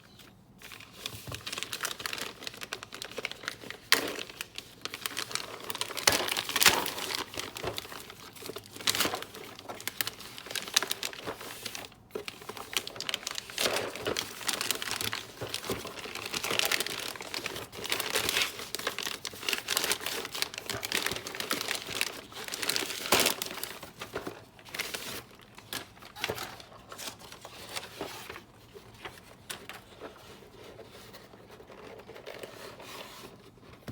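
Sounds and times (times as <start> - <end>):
packaging crinkling and rustling: 0.0 - 33.9.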